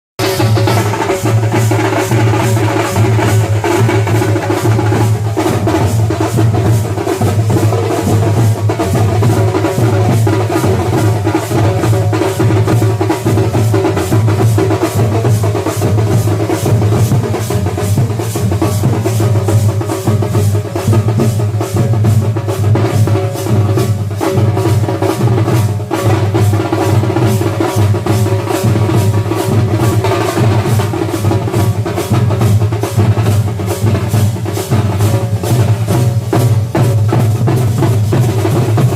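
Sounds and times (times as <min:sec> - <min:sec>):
drum ensemble playing: 0:00.2 - 0:38.9
heavy low drum throb: 0:00.2 - 0:38.9.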